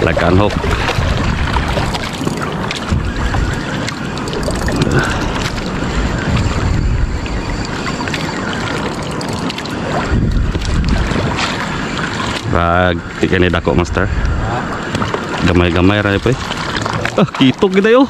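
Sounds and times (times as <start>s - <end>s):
choppy sea water: 0.0s - 18.0s
wind buffeting microphone: 0.0s - 18.0s.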